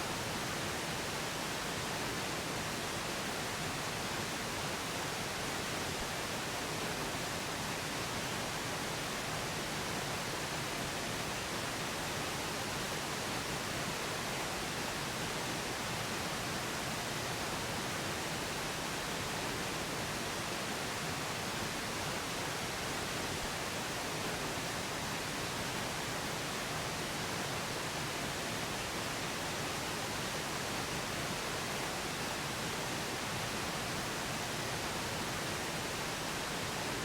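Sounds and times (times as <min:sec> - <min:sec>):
pink noise hiss: 0:00.0 - 0:37.0.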